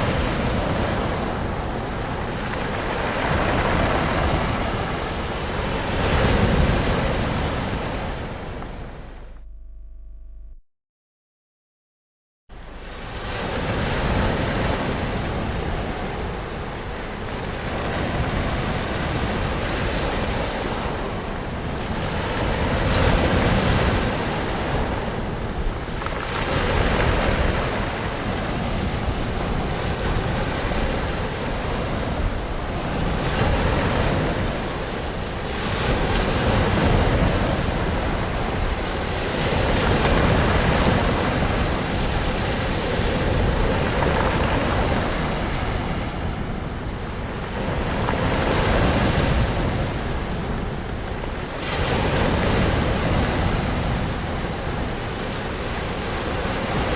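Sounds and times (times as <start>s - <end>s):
ocean waves breaking: 0.0s - 9.4s, 12.6s - 56.9s.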